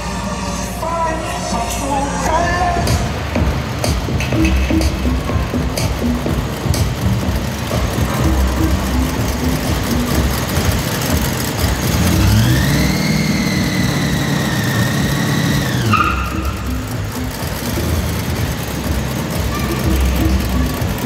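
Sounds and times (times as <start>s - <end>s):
supercharged engine revving: 0.0s - 21.0s
supercharger whine: 0.0s - 21.0s.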